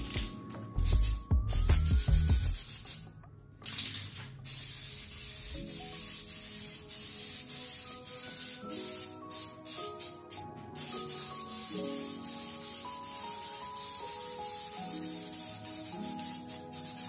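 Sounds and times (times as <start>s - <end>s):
faint background music: 0.0s - 17.0s
aerosol spray can hissing: 0.8s - 3.1s, 4.4s - 17.0s.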